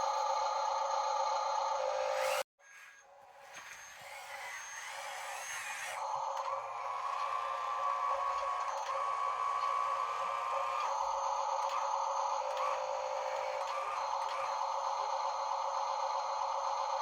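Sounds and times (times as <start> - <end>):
small electric motors whining: 0.0 - 16.9.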